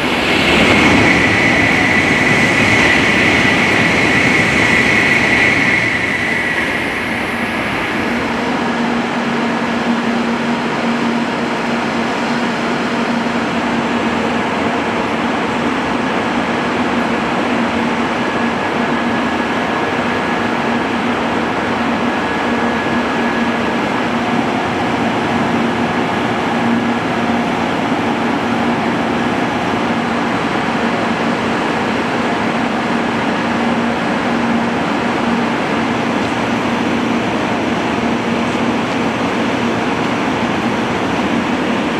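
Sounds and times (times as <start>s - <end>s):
high-speed train hum and rush: 0.0s - 41.9s.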